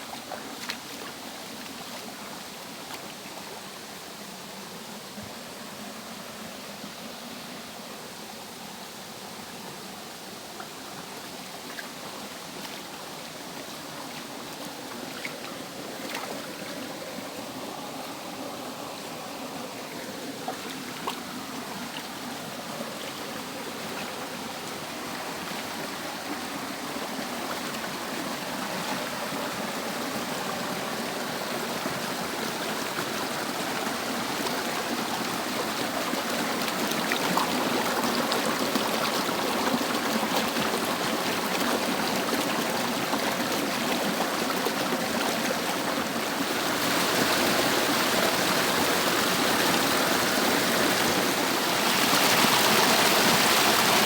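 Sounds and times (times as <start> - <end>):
water rushing down a cascade: 0.0 - 54.0.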